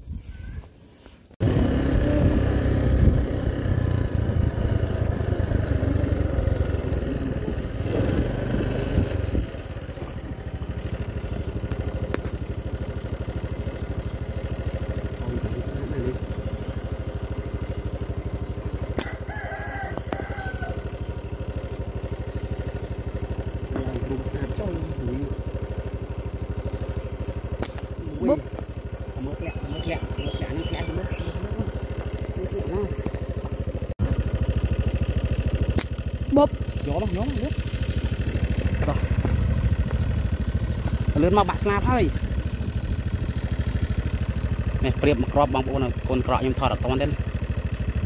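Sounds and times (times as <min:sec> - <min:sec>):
motorcycle engine starting and idling: 0:01.4 - 0:48.0.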